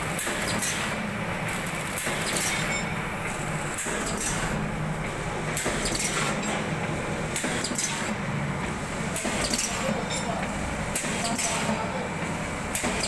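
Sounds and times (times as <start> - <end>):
packing machine humming and clacking: 0.0 - 13.0.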